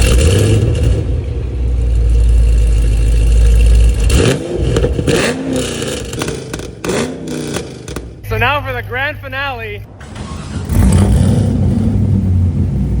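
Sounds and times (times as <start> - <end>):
car engine revving: 0.0 - 8.5, 9.9 - 13.0.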